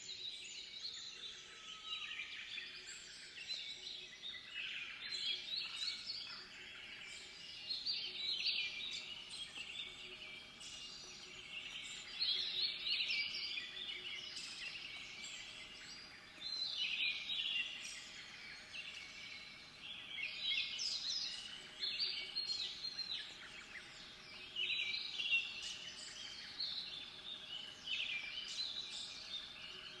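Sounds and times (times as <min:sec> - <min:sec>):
small songbirds chirping: 0:00.0 - 0:30.0.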